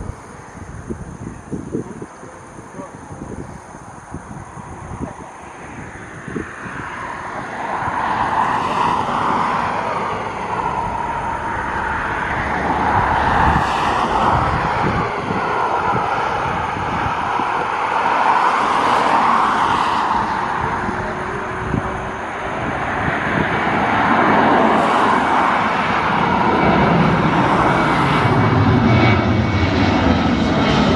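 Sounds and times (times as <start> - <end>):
jet engines running loud: 0.0 - 30.9.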